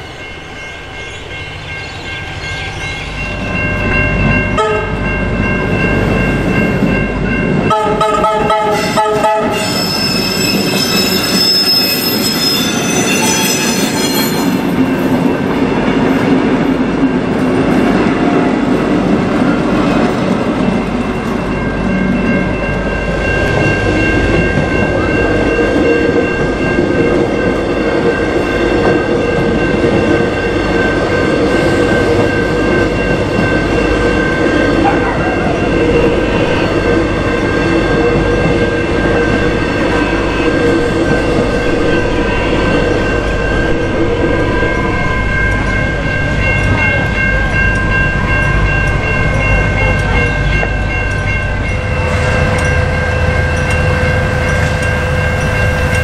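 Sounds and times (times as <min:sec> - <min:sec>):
crossing warning bells ringing: 0:00.0 - 0:56.0
electric train rumbling: 0:00.0 - 0:56.0.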